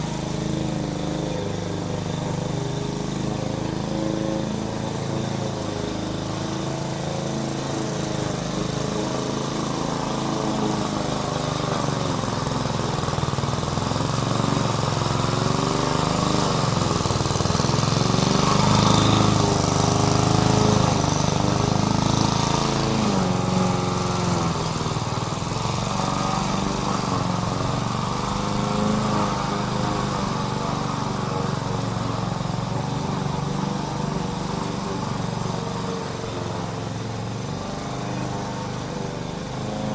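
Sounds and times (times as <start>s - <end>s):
small petrol engine revving: 0.0s - 39.9s.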